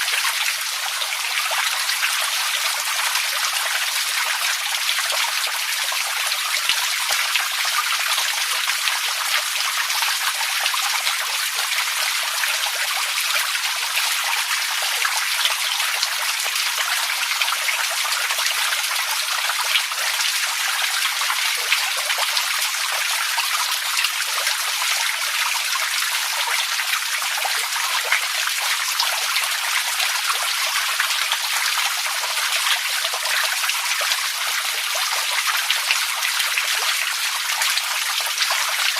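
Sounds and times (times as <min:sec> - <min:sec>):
water running and trickling: 0:00.0 - 0:38.9.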